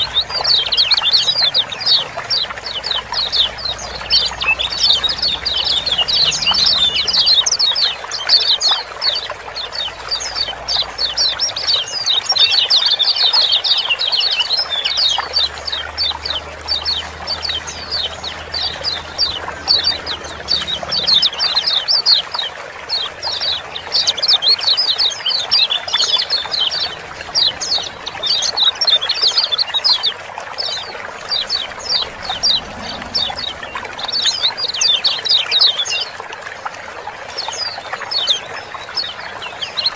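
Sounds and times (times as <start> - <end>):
birds chirping rapidly: 0.0 - 36.3
water trickling: 0.0 - 39.9.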